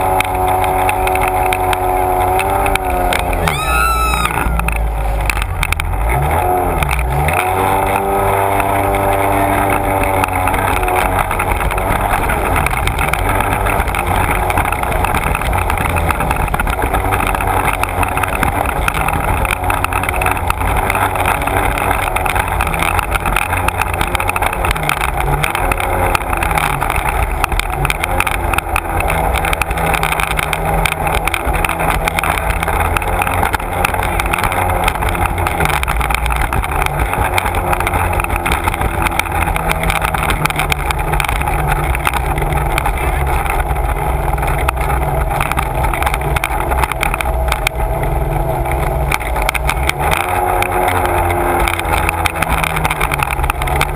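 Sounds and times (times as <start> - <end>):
personal watercraft engine: 0.0 - 53.9.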